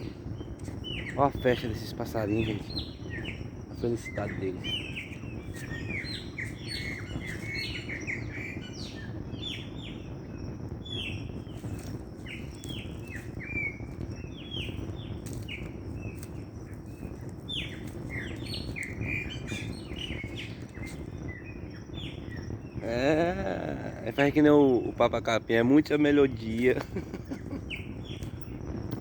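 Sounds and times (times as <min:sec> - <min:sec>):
small birds chirping and singing: 0:00.0 - 0:29.0
steady low hum: 0:00.0 - 0:29.0.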